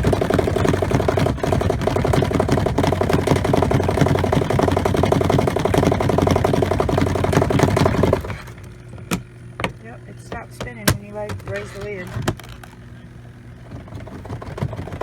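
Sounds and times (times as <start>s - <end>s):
washer spinning with motor hum: 0.0s - 15.0s.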